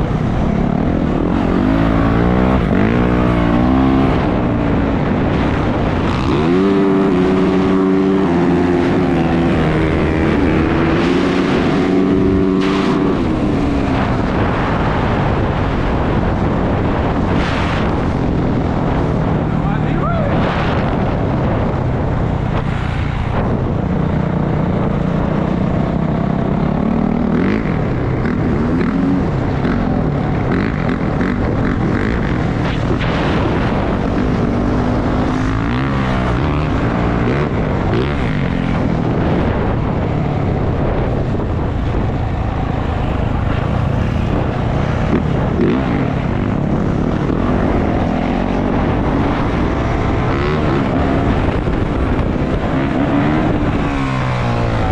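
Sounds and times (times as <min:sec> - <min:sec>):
dirt bike engine revving: 0:00.0 - 0:19.8, 0:25.8 - 0:54.9.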